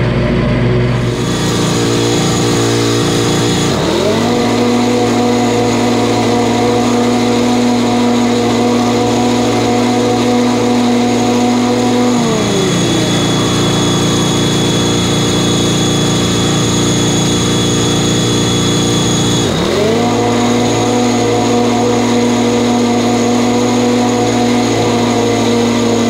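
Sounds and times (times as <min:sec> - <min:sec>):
mower engine running: 0:00.0 - 0:26.0
mower blades cutting: 0:00.9 - 0:26.0.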